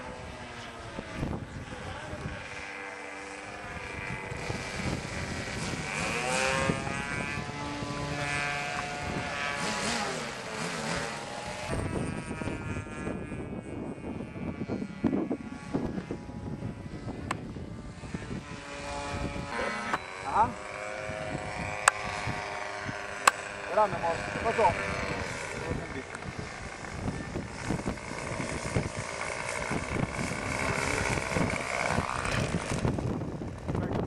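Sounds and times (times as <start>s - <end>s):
model aeroplane engine and propeller: 0.0s - 34.0s.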